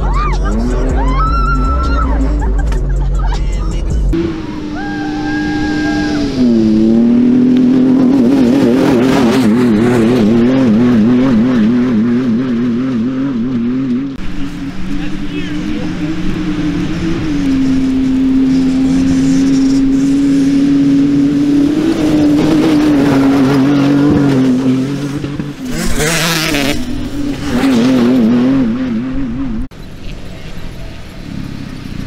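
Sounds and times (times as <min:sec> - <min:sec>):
truck engine at high revs: 0:00.0 - 0:32.0
truck passing rush: 0:00.0 - 0:32.0.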